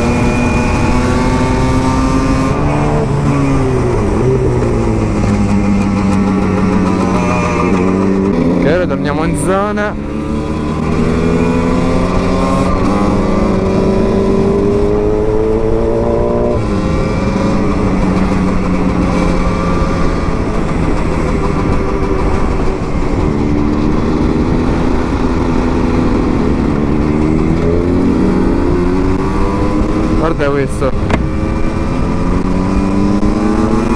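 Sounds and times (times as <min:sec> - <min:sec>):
two-stroke motorcycle engine: 0:00.0 - 0:33.9
wind rush on microphone: 0:00.0 - 0:33.9.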